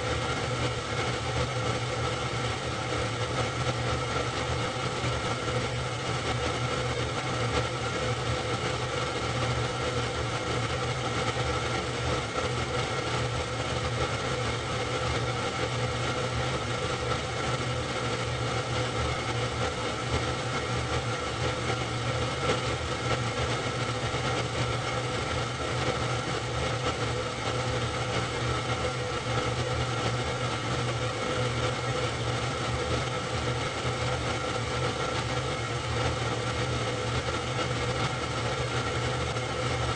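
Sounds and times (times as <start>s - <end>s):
film projector humming: 0.0s - 39.9s.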